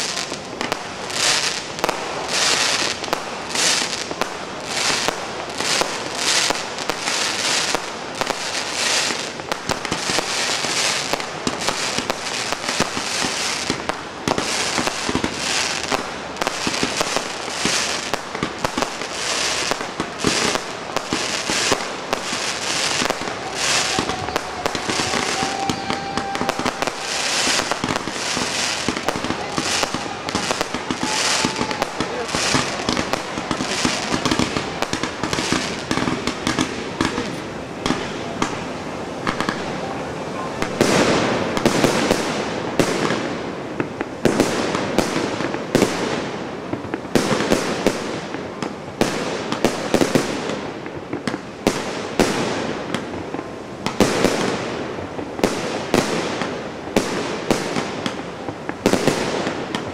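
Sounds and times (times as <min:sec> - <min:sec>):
firework bangs: 0:00.0 - 0:59.9
fireworks crackling: 0:00.0 - 0:59.9.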